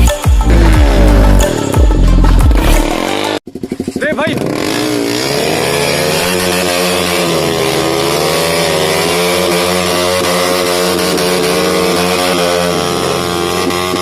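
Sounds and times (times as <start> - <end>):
motorcycle engine revving: 0.1 - 14.0.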